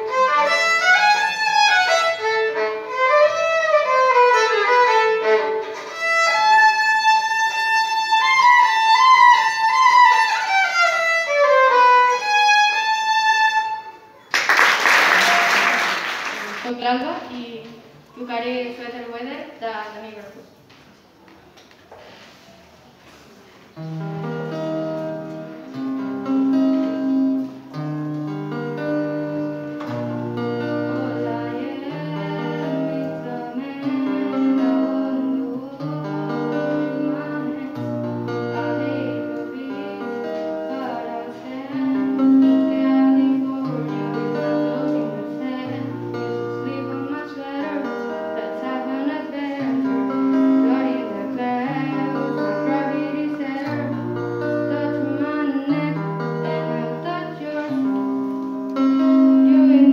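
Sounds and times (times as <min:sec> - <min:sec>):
electric guitar playing chords: 0:00.0 - 0:14.2, 0:23.8 - 0:59.9.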